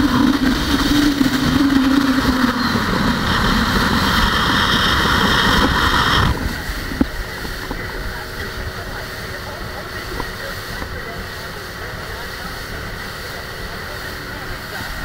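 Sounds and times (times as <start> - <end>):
hull rushing through water: 0.0 - 15.0
outboard motor running: 0.0 - 15.0
wind: 0.0 - 15.0.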